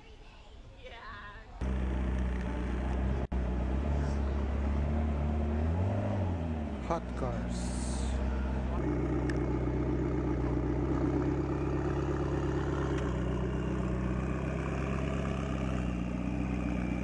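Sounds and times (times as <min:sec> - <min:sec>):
car engine idling: 0:01.6 - 0:17.0.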